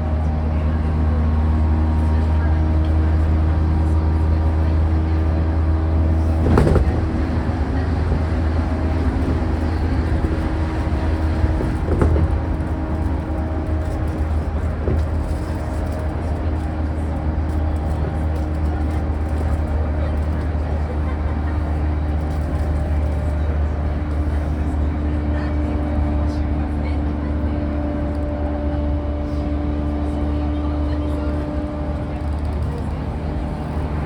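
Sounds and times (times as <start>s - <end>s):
train interior rumble: 0.0s - 34.0s.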